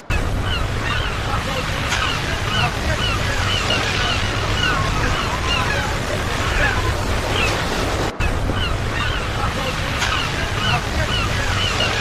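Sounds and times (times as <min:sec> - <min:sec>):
ocean surf on a beach: 0:00.0 - 0:12.0.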